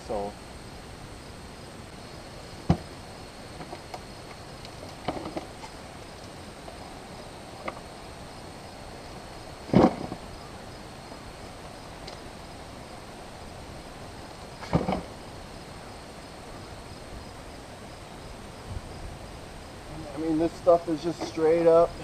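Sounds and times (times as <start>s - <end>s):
insect chirring: 0.0s - 22.0s.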